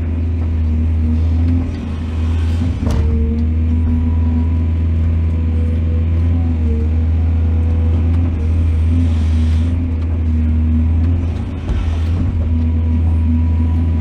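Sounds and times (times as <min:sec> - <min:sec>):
heavy machinery engine drone: 0:00.0 - 0:14.0.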